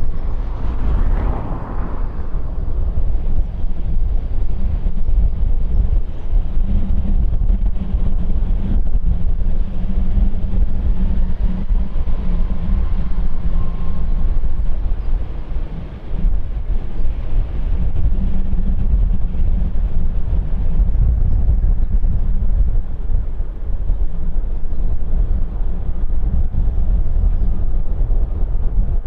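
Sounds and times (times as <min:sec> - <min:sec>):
faint engine whine: 0:00.0 - 0:29.0
jet engines rumbling: 0:00.0 - 0:29.0
wind buffeting microphone: 0:00.0 - 0:29.0.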